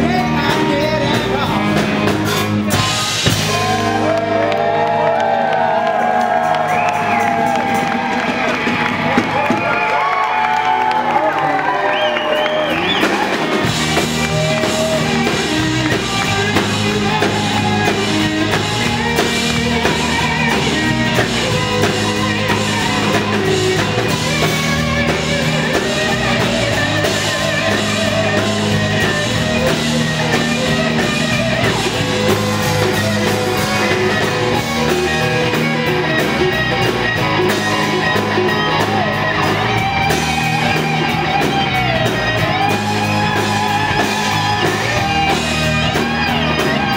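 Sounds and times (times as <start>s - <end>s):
electric bass: 0.0s - 9.6s, 11.6s - 46.9s
drum kit: 0.0s - 46.9s
electric guitars: 0.0s - 46.9s.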